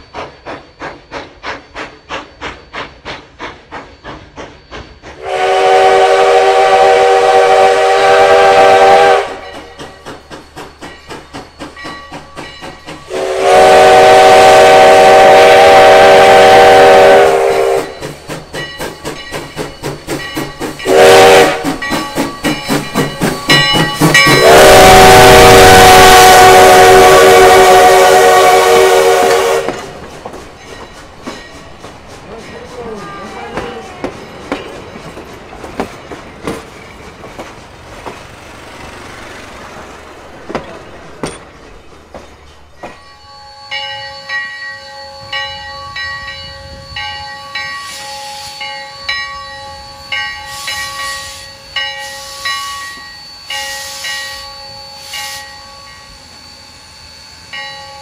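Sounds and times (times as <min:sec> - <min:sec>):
steam locomotive exhaust chuffing: 0:00.0 - 0:58.0
steam locomotive chime whistle: 0:03.8 - 0:58.0.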